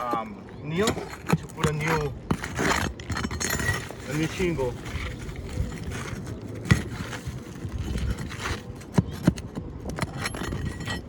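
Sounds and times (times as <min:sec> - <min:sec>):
scraping on roof shingle: 0:00.0 - 0:11.0.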